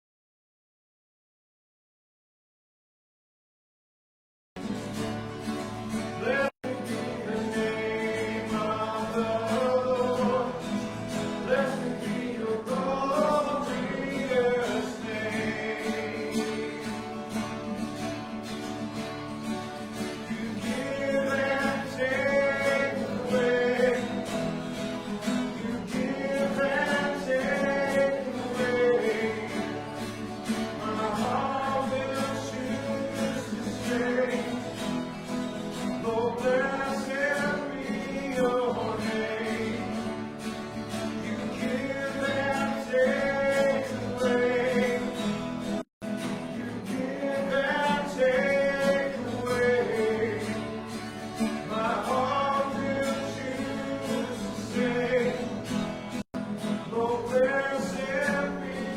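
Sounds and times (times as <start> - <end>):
guitar accompaniment: 4.6 - 58.9
congregation singing: 5.7 - 58.9.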